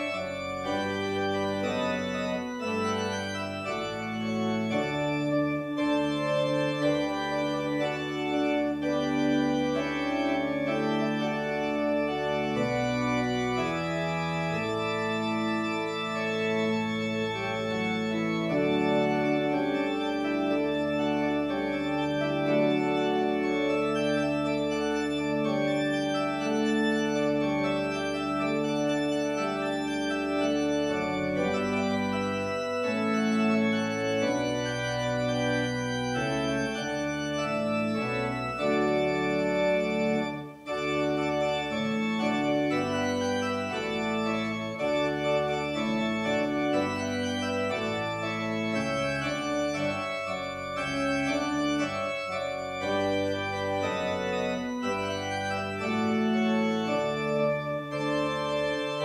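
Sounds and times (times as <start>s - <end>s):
organ playing slow chords: 0.0s - 59.0s.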